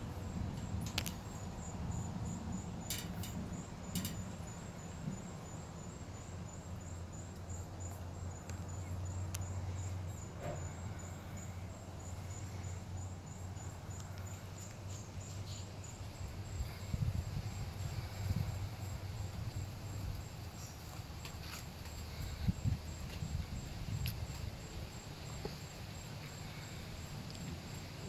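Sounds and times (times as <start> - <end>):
low steady hum from the sky: 0.0 - 28.0.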